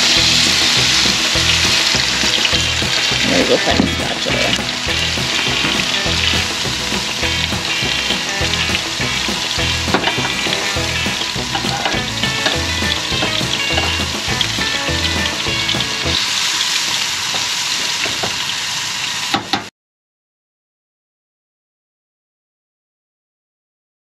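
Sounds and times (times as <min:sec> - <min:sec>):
vegetables sizzling on griddle: 0:00.0 - 0:19.7.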